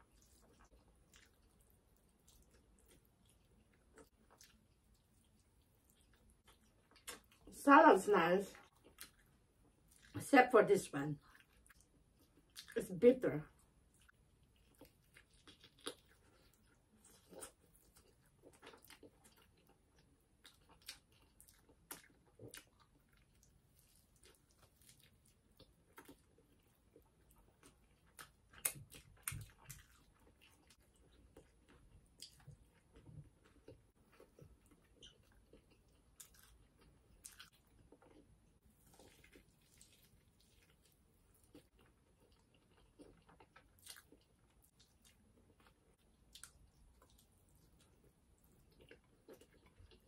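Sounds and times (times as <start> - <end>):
person chewing and biting: 0.0 - 7.5, 13.9 - 50.0.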